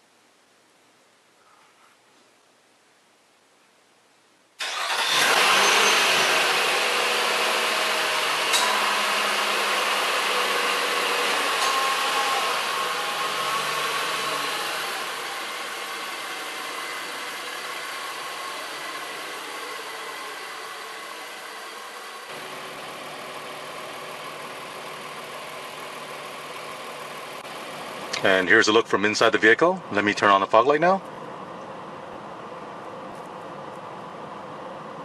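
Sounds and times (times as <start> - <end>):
car engine cranking and idling: 4.6 - 35.0.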